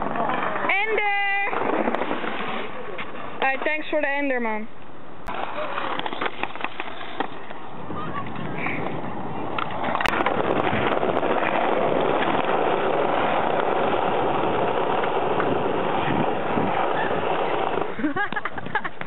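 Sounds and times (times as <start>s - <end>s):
skateboard wheels rolling on paving: 0.0s - 19.0s.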